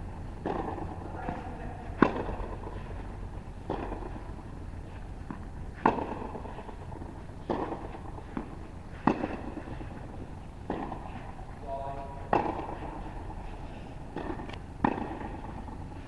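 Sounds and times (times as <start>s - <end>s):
tennis racket hitting ball: 0.4s - 13.4s, 14.1s - 15.7s.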